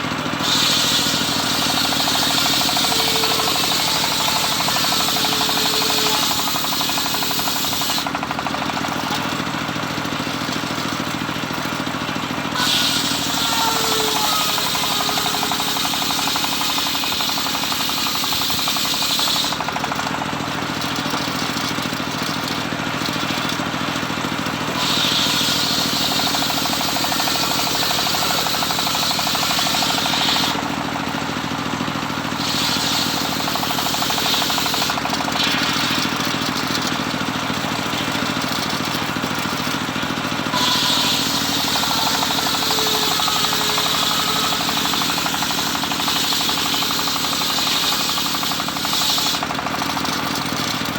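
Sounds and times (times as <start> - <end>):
circular saw drone: 0.0 - 8.2, 11.9 - 19.7, 24.3 - 49.4
saw blade cutting wood hiss: 0.3 - 9.7, 11.8 - 50.4.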